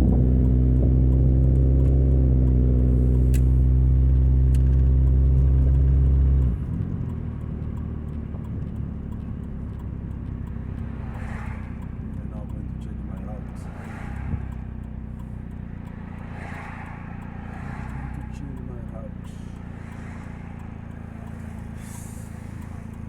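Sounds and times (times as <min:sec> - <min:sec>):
car engine droning exhaust: 0:00.0 - 0:23.0.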